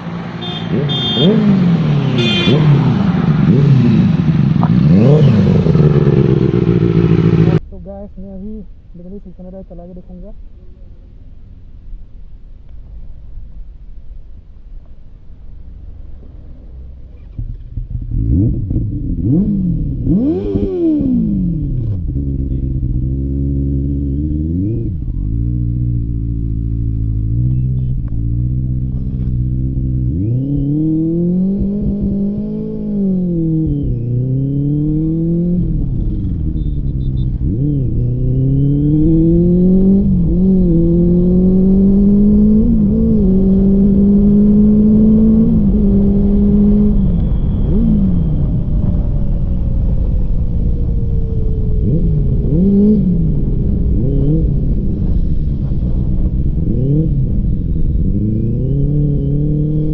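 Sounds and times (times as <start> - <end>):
motorcycle engine revving: 0.0 - 7.6, 17.1 - 59.9.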